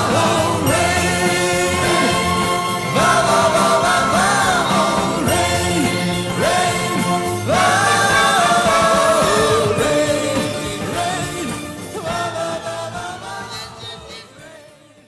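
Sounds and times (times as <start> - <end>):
pop song: 0.0 - 15.0.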